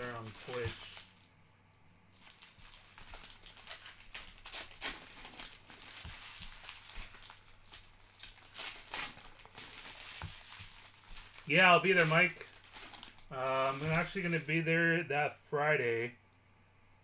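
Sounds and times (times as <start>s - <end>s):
plastic wrappers crinkling and tearing: 0.0s - 14.6s.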